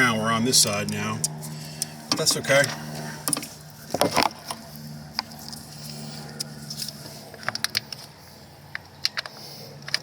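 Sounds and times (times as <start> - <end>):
steady low hum: 0.0 - 10.0
tools clicking on engine parts: 0.6 - 4.6, 5.2 - 10.0.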